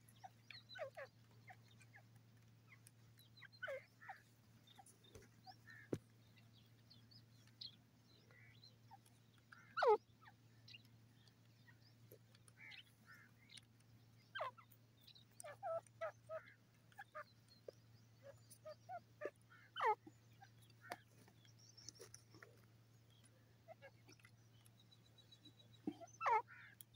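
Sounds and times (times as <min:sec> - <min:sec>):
soft chirps and clicks: 0:00.0 - 0:26.9.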